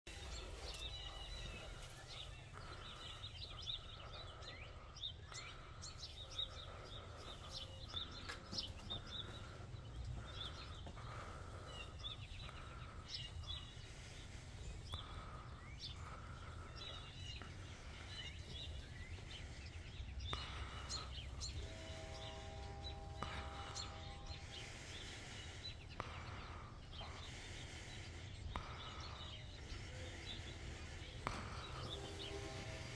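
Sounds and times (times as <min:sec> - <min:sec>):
small birds chirping: 0:00.1 - 0:32.9.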